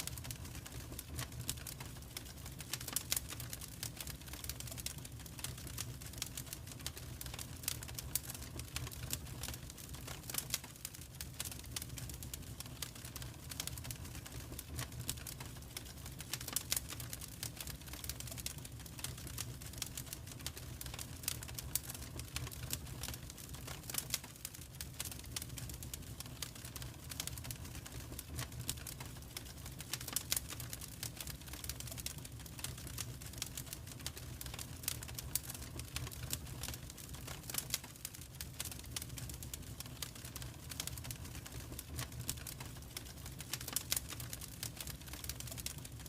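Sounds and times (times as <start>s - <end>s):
low rumble of flames: 0.0s - 46.0s
wood fire crackling and popping: 0.0s - 46.0s.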